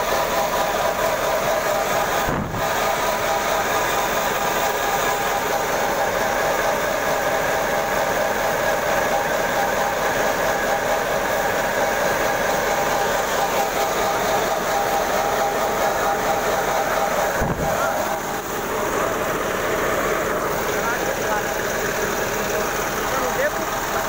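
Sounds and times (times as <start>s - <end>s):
threshing machine running: 0.0s - 24.0s.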